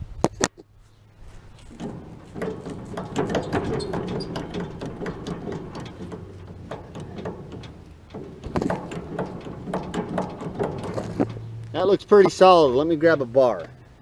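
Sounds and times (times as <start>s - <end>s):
baler mechanism clattering: 1.6s - 14.0s.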